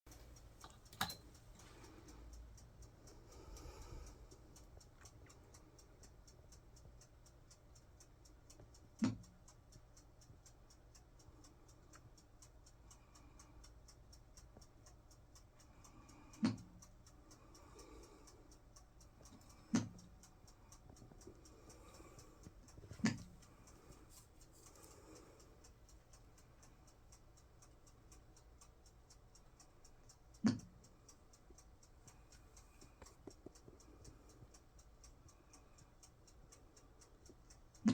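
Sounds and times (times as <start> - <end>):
ceiling fan ticking: 0.1 - 37.9.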